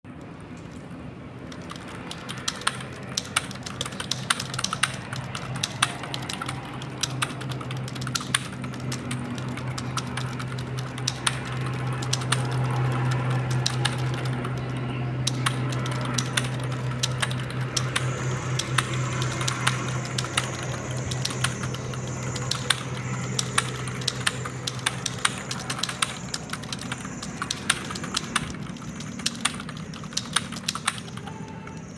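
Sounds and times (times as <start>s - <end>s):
steady low hum: 0.0s - 31.9s
fast keyboard typing: 1.4s - 31.9s.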